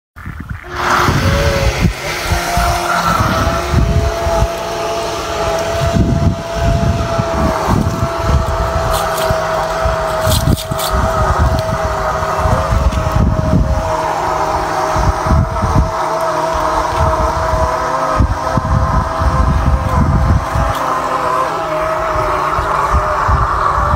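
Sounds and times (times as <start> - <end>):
wind buffeting microphone: 0.2 - 23.9
small boat motor whining: 0.4 - 23.9.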